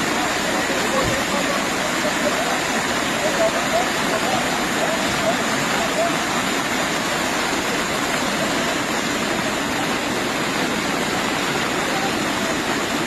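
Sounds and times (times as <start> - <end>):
heavy rain: 0.0 - 13.0
running storm water: 0.0 - 13.0.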